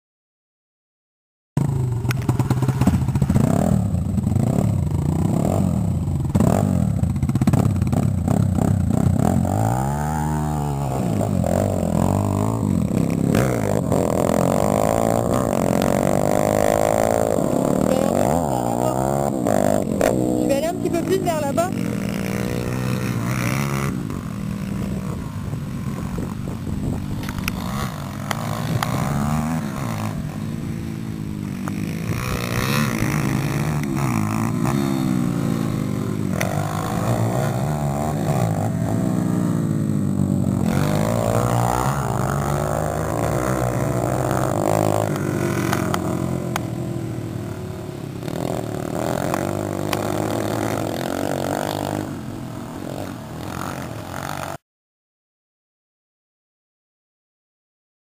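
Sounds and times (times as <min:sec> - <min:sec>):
dirt bike engine revving: 0:01.6 - 0:54.6.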